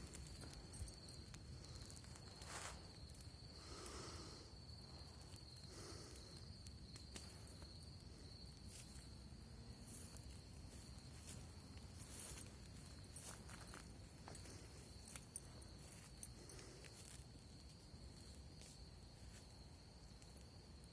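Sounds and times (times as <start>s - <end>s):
campfire ticks and crackles: 0.0s - 20.9s
cricket singing: 0.0s - 20.9s.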